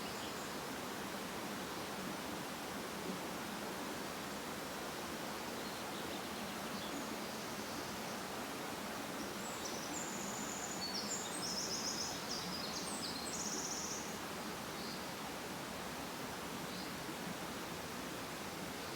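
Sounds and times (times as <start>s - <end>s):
forest ambience rustling hiss: 0.0s - 18.9s.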